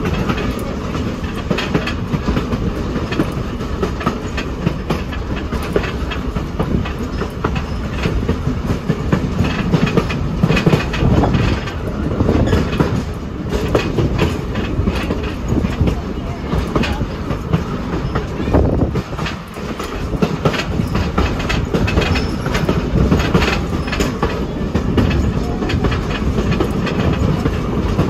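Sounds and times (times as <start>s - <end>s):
train cars rattling: 0.0s - 28.0s
train rumbling: 0.0s - 28.0s
wheels clacking over rail joints: 0.0s - 28.0s.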